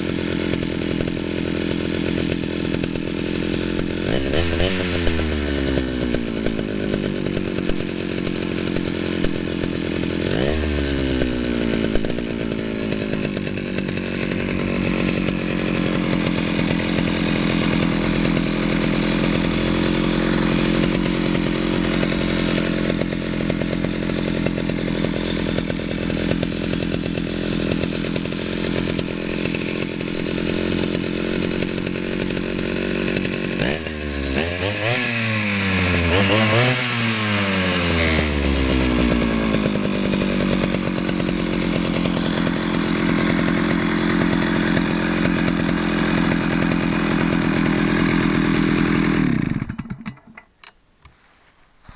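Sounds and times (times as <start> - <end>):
chainsaw engine revving: 0.0 - 50.6.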